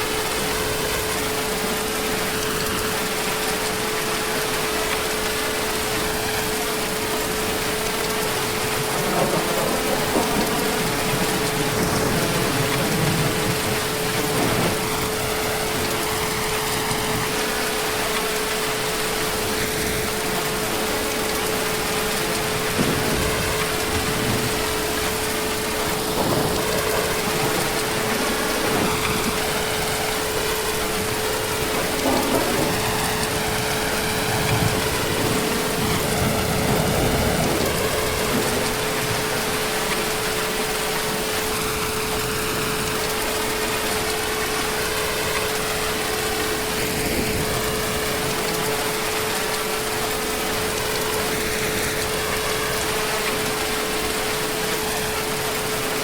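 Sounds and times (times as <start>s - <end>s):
heavy rain: 0.0s - 56.0s
distant thunder rumble: 7.1s - 18.3s, 19.0s - 53.7s.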